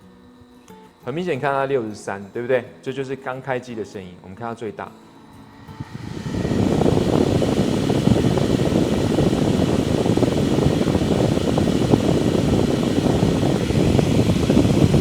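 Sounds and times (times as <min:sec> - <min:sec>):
dust-collector fan rushing air: 0:00.9 - 0:15.0.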